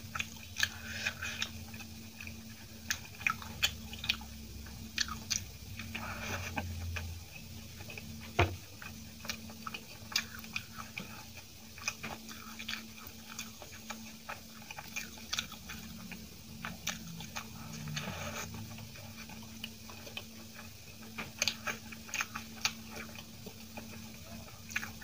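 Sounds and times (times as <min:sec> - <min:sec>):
faint steady hum: 0:00.0 - 0:25.0
wet chewing and mouth smacks: 0:00.1 - 0:07.1, 0:08.8 - 0:24.1.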